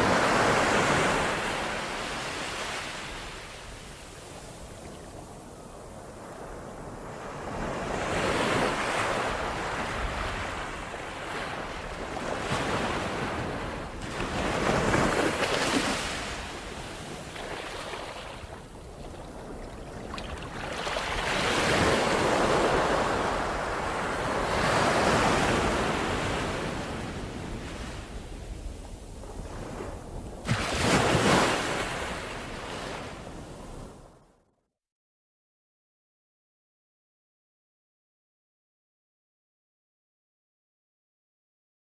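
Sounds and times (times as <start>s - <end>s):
ocean waves breaking on shore: 0.0s - 34.2s
wind: 0.0s - 34.6s.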